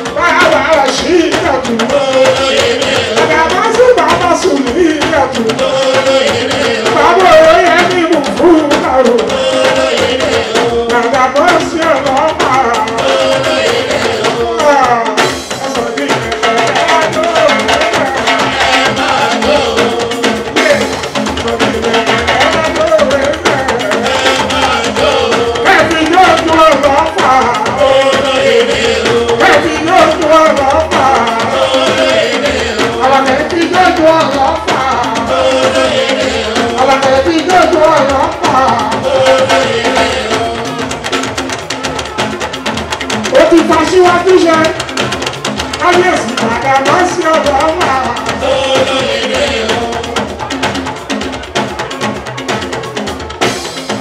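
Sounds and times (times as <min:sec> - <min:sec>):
man singing into microphone: 0:00.0 - 0:41.0, 0:45.8 - 0:50.3
hand drums and percussion: 0:00.0 - 0:54.0.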